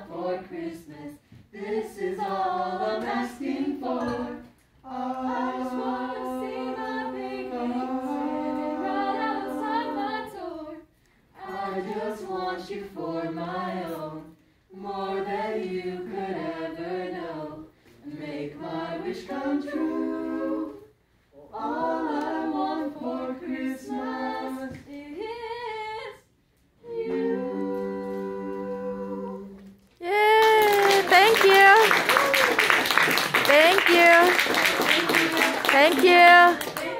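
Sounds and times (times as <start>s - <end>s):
group singing a cappella: 0.0s - 29.9s, 34.1s - 36.9s.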